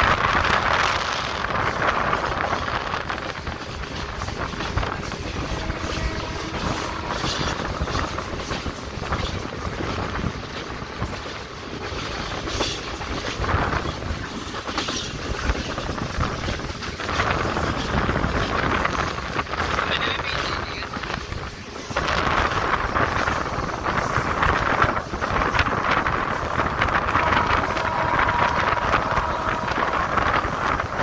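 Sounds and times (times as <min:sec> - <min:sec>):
train rumbling along track: 0:00.0 - 0:31.0
train wheels knocking: 0:00.0 - 0:31.0.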